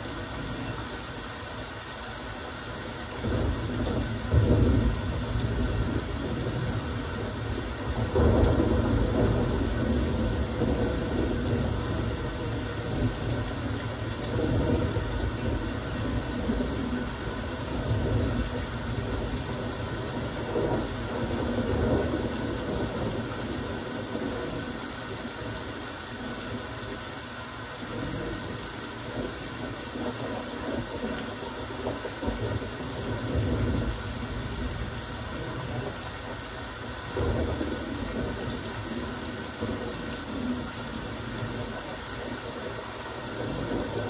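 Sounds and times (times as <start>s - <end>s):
rain hissing: 0.0s - 44.0s.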